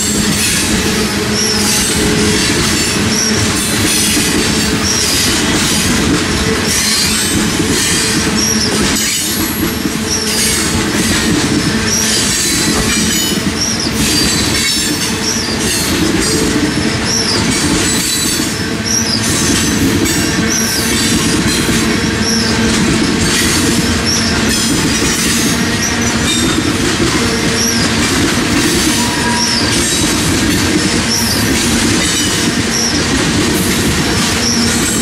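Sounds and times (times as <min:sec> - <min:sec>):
high wheel squeals: 0:00.0 - 0:09.4, 0:10.0 - 0:33.1
train wheels rumbling on rail: 0:00.0 - 0:35.0.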